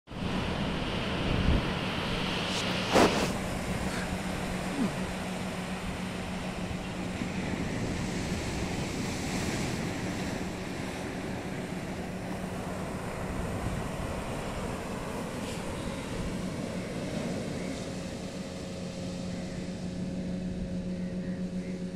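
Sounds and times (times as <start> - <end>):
waves breaking on beach: 0.1 - 20.5
wind buffeting microphone: 0.2 - 21.9.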